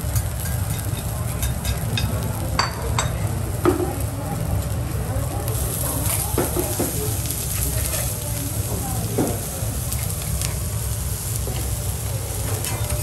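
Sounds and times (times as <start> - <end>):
vegetables sizzling on a griddle: 0.0 - 13.0.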